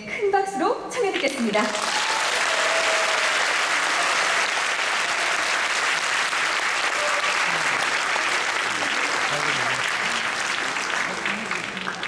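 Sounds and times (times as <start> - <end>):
audience applauding: 1.1 - 12.0.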